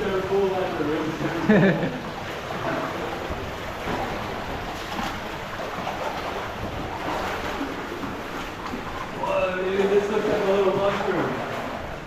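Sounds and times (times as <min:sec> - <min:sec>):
stream water rushing: 0:00.0 - 0:12.0
faint knocks or splashes: 0:02.0 - 0:12.0.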